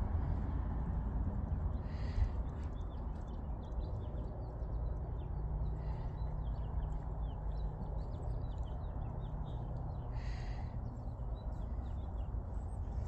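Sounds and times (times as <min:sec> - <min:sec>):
steady low rumble: 0:00.0 - 0:13.0
small birds chirping: 0:01.5 - 0:13.0.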